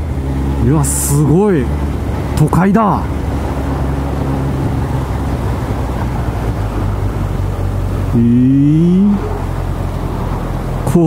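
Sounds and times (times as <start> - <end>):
motorcycle engine revving: 0.0 - 11.0
wind and road noise: 0.0 - 11.0.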